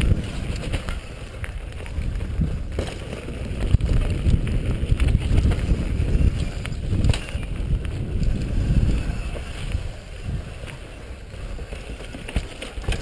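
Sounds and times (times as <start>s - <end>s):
bike rattling over bumps: 0.0s - 13.0s
wind rumbling on microphone: 0.0s - 13.0s.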